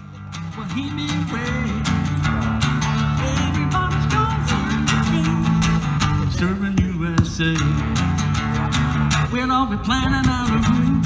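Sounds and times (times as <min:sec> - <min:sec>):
acoustic guitar strumming: 0:00.0 - 0:11.0
bass line: 0:00.0 - 0:11.0.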